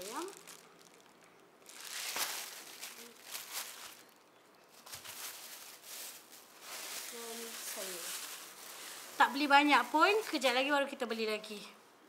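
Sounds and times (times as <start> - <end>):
plastic bags rustling: 0.0 - 10.7.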